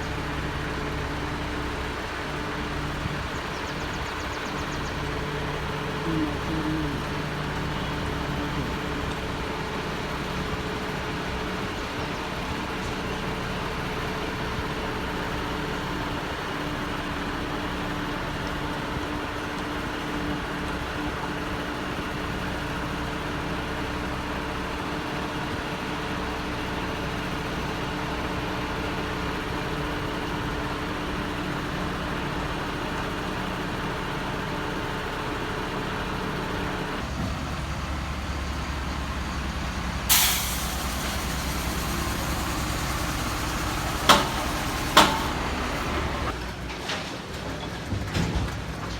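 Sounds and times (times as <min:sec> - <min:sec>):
heavy vehicle engine drone: 0:00.0 - 0:48.9.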